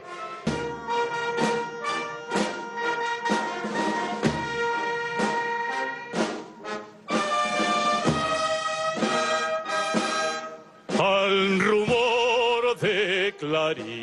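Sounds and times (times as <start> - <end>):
brass band chords: 0.0 - 14.0
drum strokes: 0.3 - 12.4.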